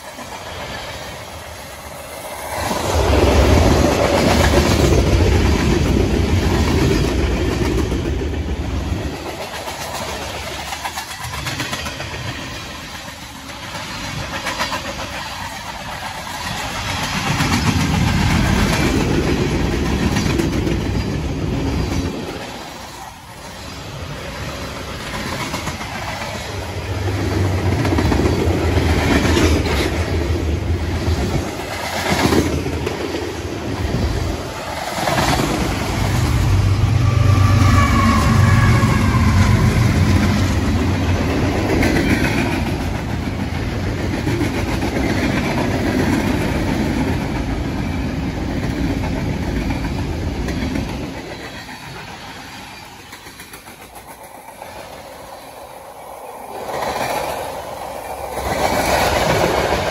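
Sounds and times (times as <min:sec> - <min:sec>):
train clanks: 0:00.0 - 0:59.9
train wheels rumbling on rails: 0:00.0 - 0:59.9.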